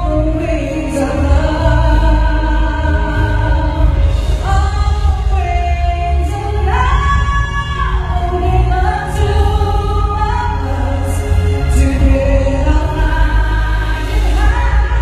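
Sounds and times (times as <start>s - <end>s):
steady bass: 0.0s - 15.0s.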